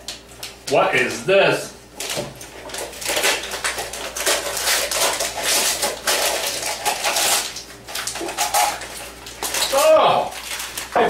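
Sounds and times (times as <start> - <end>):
wrapping paper crinkling and tearing: 2.0 - 11.0.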